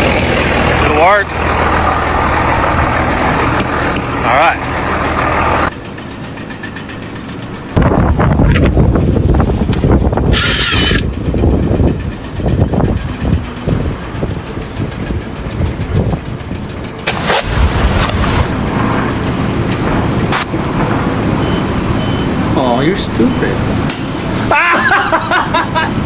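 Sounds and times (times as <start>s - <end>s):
heavy engine rumbling: 0.0s - 26.0s.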